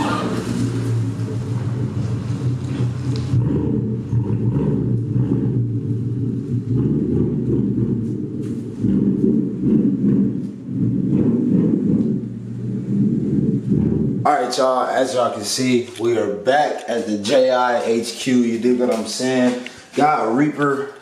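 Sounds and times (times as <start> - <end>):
deep engine exhaust rumble: 0.0 - 20.4.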